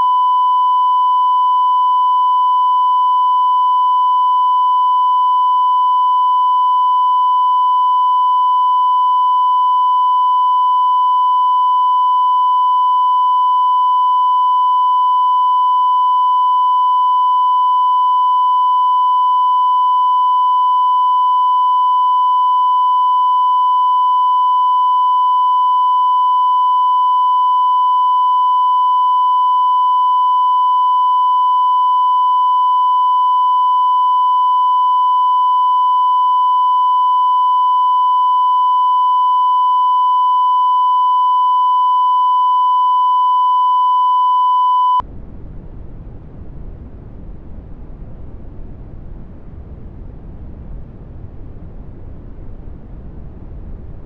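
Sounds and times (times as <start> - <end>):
electronic test tone: 0.0 - 45.0.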